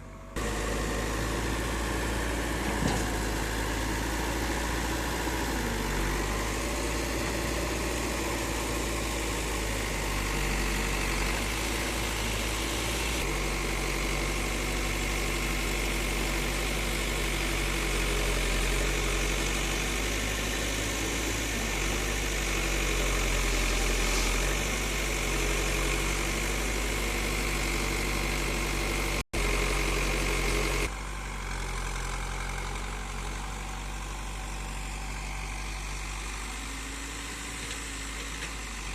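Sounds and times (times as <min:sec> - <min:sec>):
heavy diesel engine running: 0:00.0 - 0:38.9
quieter engine sound: 0:00.0 - 0:38.9.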